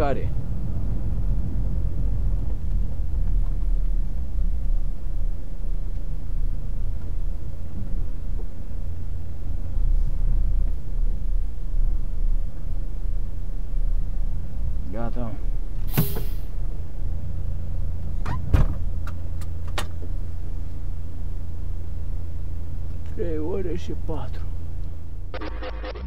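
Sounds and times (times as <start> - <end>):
truck engine rumbling: 0.0 - 26.0.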